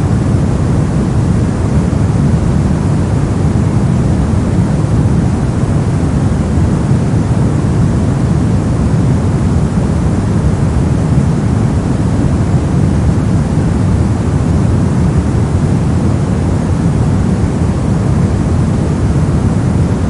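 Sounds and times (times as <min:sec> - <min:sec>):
deep white noise hiss: 0:00.0 - 0:20.0.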